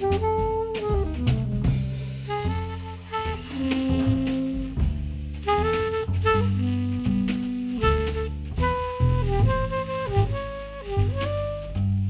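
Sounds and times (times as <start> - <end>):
saxophones holding notes: 0.0 - 1.3, 2.3 - 4.8, 5.4 - 11.8
drums and cymbal hits: 0.0 - 12.0
piano: 0.0 - 12.0
upright bass: 0.0 - 12.0.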